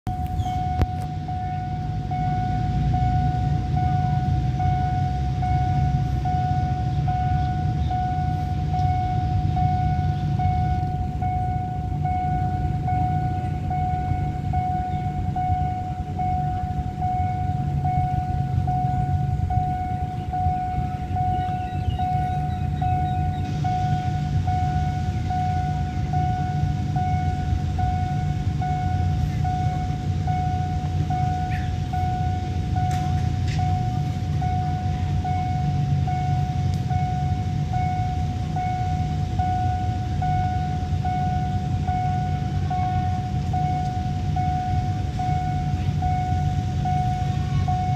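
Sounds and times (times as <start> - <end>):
level crossing warning alarm: 0.0 - 47.9
low engine rumble: 0.0 - 47.9.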